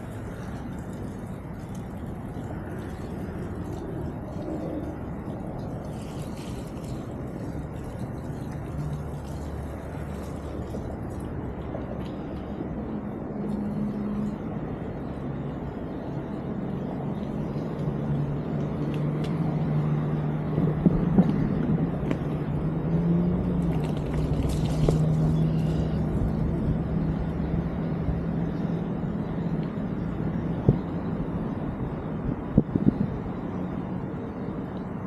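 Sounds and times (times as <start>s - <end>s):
bike tyres humming on trail: 0.0s - 35.0s.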